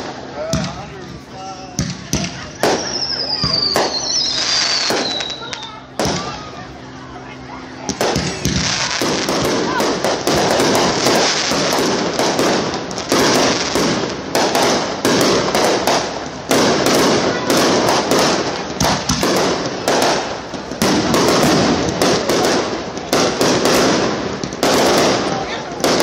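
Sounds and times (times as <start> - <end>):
fireworks barrage: 0.0 - 26.0.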